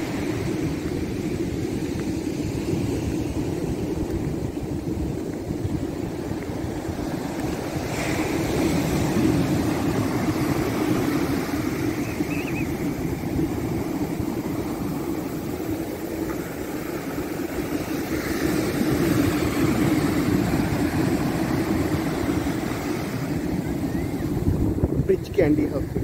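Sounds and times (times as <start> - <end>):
sea waves breaking: 0.0 - 26.0
wind noise on microphone: 0.0 - 26.0.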